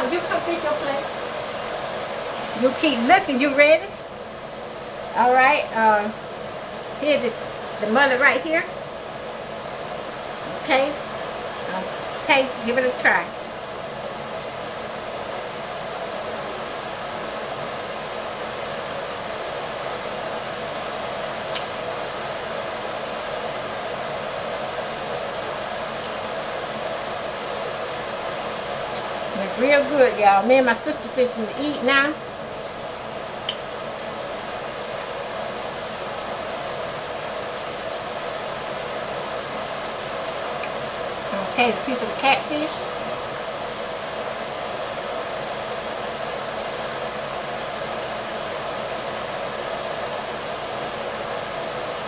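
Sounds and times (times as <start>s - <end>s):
fan whooshing: 0.0s - 52.0s.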